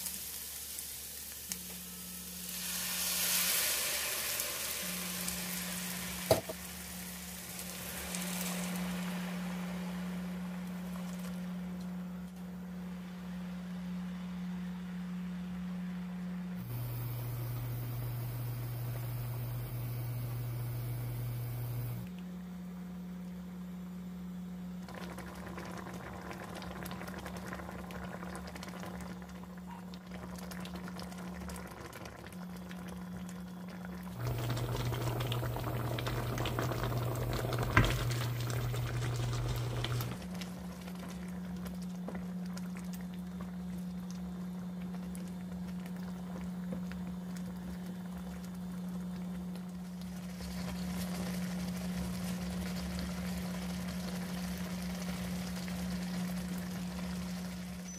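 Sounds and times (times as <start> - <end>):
low cooktop hum: 0.0 - 57.9
sauce simmering and bubbling: 0.2 - 12.2, 16.6 - 22.1, 24.8 - 57.9.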